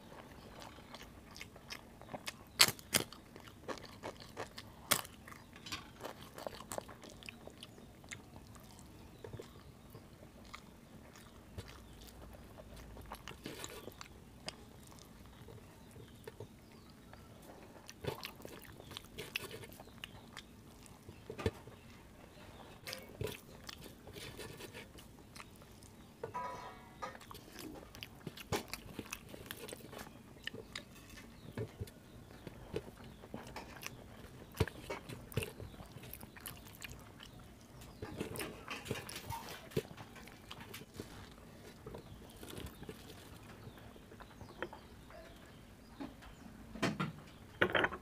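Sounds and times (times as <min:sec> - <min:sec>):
wet chewing and lip smacks: 0:00.1 - 0:17.0, 0:17.8 - 0:21.3, 0:22.8 - 0:26.0, 0:27.2 - 0:43.8.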